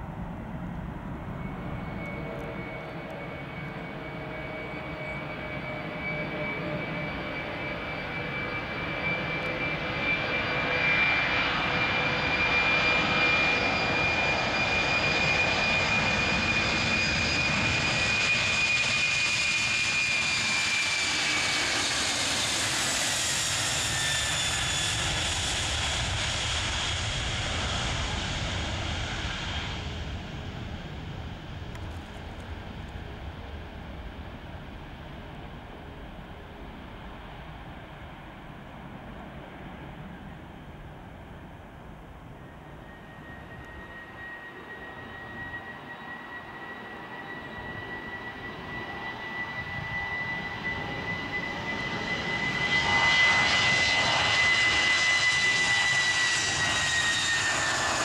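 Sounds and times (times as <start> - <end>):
jet engines roaring with whine: 0.0 - 58.0.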